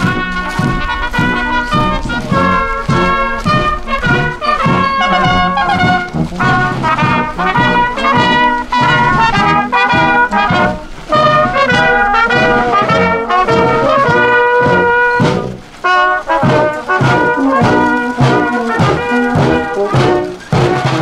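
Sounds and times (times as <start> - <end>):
brass band playing a march: 0.0 - 21.0
drum beating time: 0.0 - 21.0.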